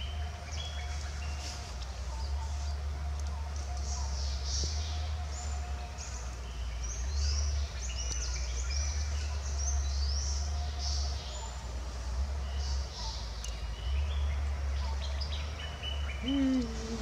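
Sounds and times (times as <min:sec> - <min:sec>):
birds chirping: 0:02.1 - 0:17.0.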